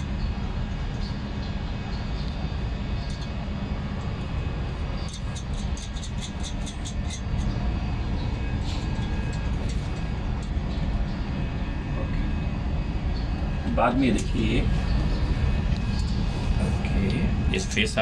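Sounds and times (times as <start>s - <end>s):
machinery rumbling: 0.0s - 18.0s.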